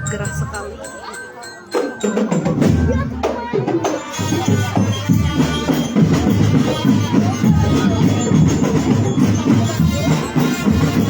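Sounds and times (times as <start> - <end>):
marching drum band: 1.8 - 11.0.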